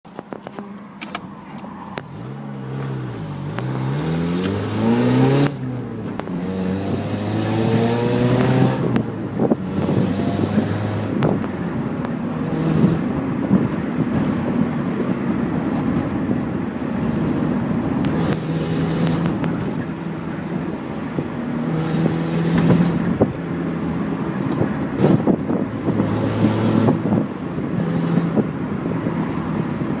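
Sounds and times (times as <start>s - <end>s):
exhaust crack: 0.1s - 30.0s
car engine revving: 0.4s - 30.0s.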